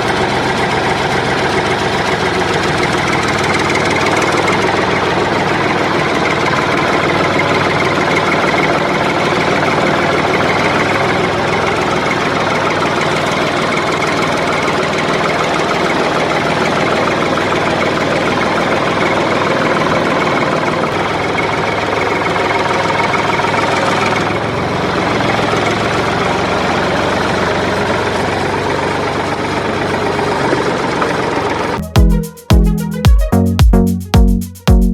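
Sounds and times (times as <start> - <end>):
toy tractor motor drone: 0.0 - 31.8.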